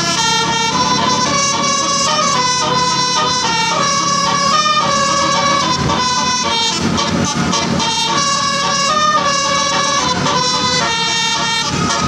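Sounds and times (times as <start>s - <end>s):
bus engine: 0.0s - 12.0s
bus horn playing a tune: 0.0s - 12.0s
road noise: 0.0s - 12.0s.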